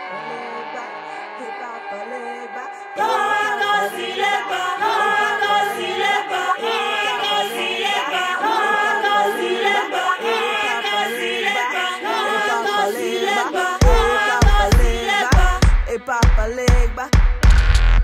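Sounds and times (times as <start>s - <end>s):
choir-like chant: 0.0s - 15.8s.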